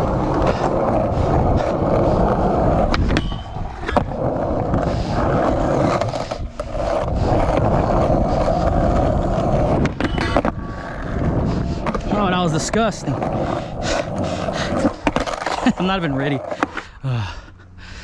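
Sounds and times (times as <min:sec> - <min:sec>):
skateboard clacks: 0:00.0 - 0:16.9
skateboard sliding on rail: 0:00.0 - 0:16.9
skateboard wheels rolling on concrete: 0:00.0 - 0:18.0.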